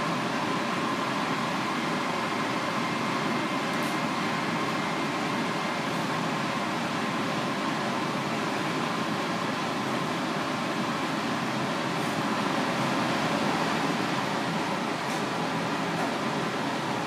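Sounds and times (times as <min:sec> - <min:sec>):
ventilation fan hum: 0:00.0 - 0:17.0.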